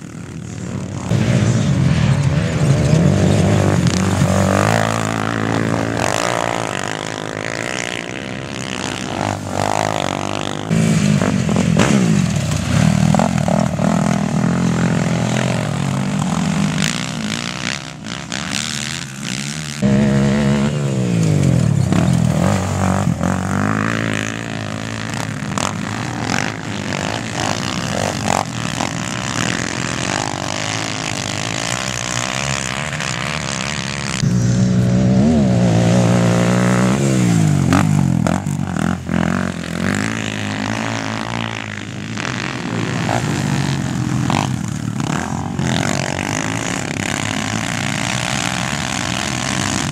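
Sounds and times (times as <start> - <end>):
quad bike engines revving: 0.0 - 49.9.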